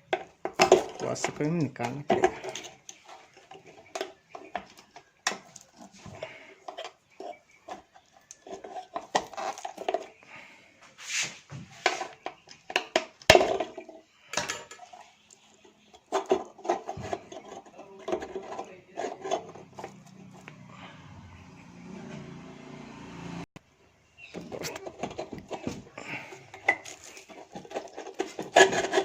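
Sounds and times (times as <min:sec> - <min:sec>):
metal clanking and scraping: 0:00.0 - 0:10.2, 0:11.6 - 0:20.5, 0:24.3 - 0:29.0.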